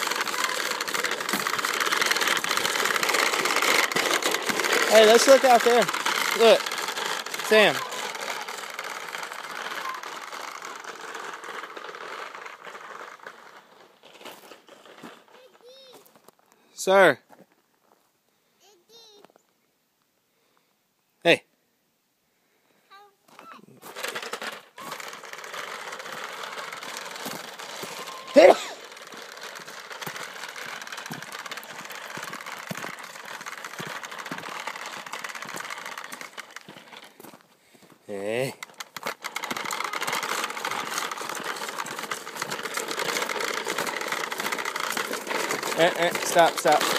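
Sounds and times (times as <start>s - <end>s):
toy push mower clicking on gravel: 0.0s - 17.1s, 22.9s - 46.9s.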